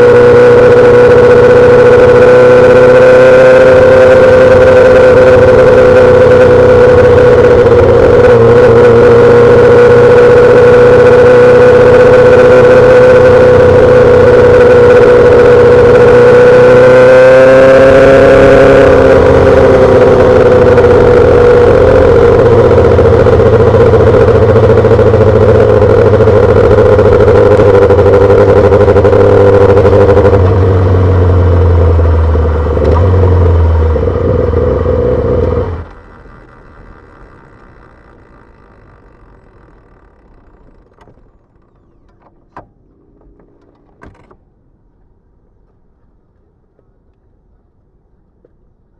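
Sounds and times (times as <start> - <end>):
motorcycle engine running loud: 0.0 - 42.2.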